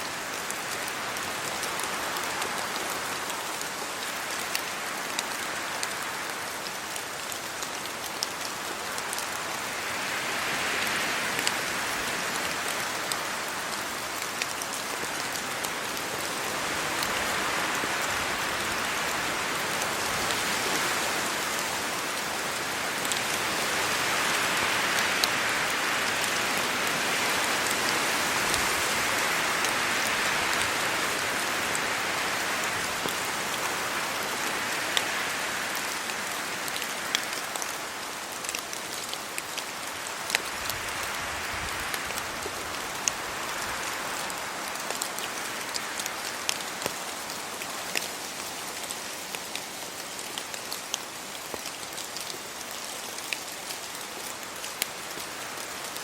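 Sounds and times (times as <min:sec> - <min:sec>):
rain on leaves and road: 0:00.0 - 0:56.0.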